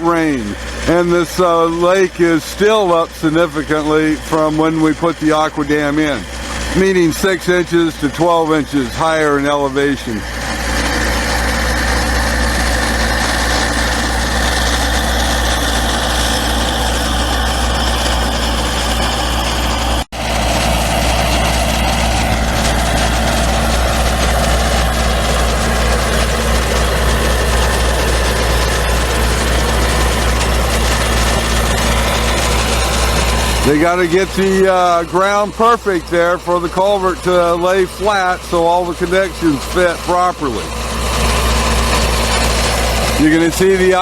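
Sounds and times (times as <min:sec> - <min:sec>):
construction machinery engine droning: 0:00.0 - 0:44.0.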